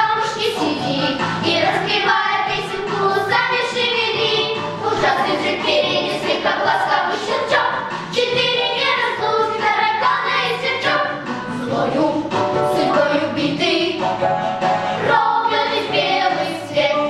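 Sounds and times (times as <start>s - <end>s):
girls singing together: 0.0s - 14.0s, 15.0s - 17.0s.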